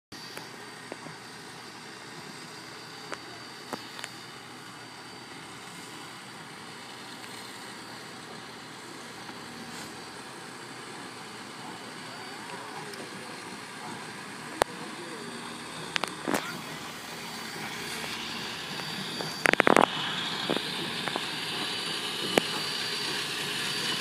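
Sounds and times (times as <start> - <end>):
steam locomotive hissing: 0.2 - 24.0.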